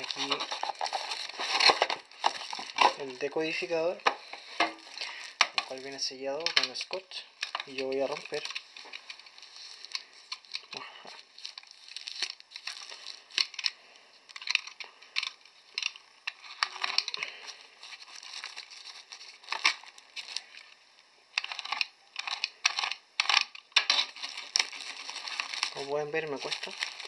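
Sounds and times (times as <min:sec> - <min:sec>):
plastic wrapping crinkling and tearing: 0:00.0 - 0:27.0.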